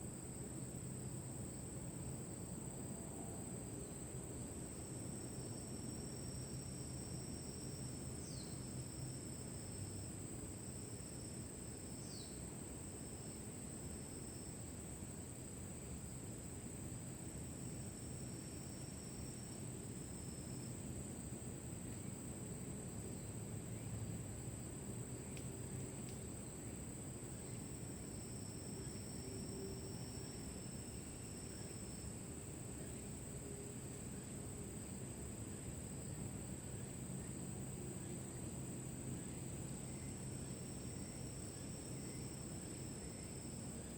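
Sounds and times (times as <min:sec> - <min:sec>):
high-pitched insect trill: 0:04.7 - 0:14.8, 0:15.8 - 0:22.4, 0:23.1 - 0:43.9.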